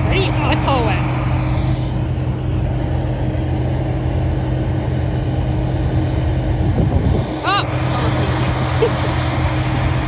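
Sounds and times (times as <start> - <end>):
vehicle engine running steadily: 0.0 - 10.0.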